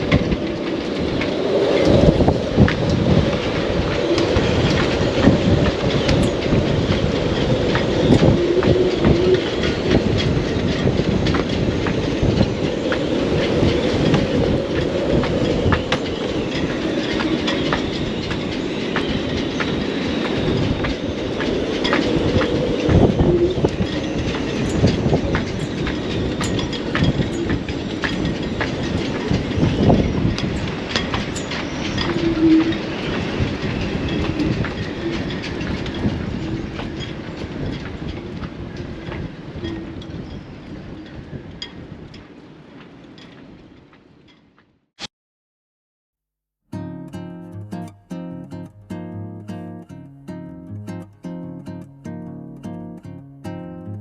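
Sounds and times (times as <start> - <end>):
wind gusting over microphone: 0.0 - 44.6.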